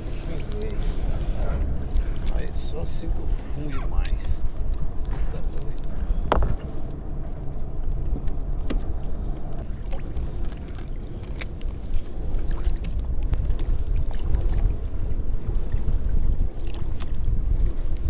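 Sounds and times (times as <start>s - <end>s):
water lapping against a hull: 0.0s - 18.0s
wind on microphone: 0.0s - 18.0s.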